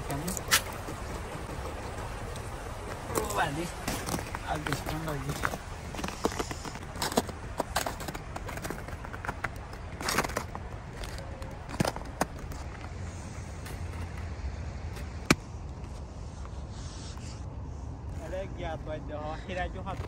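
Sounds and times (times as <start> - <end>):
footsteps crunching on snowy stones: 0.0 - 16.6.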